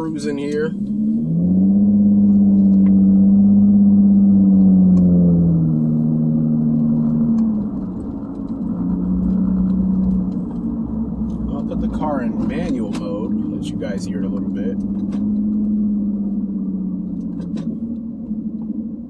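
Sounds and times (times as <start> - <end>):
car exhaust droning: 0.0 - 19.0.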